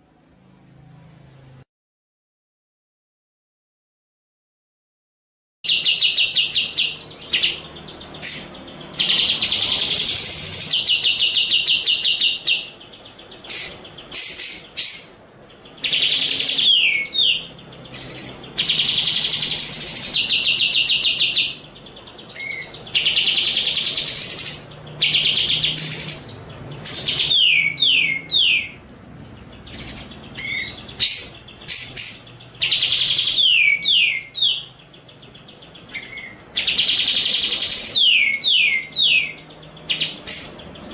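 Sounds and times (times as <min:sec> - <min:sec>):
songbird trilling: 0:05.7 - 0:28.8, 0:29.4 - 0:40.9.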